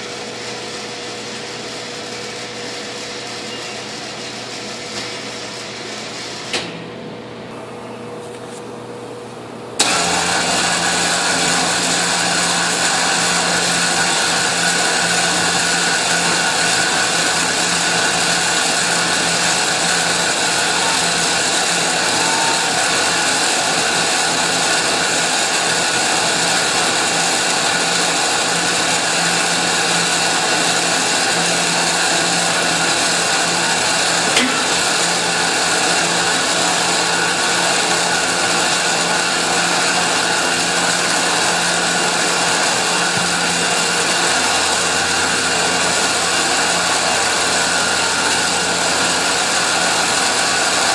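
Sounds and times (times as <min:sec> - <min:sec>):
small motor-driven machine running: 0:09.8 - 0:50.9.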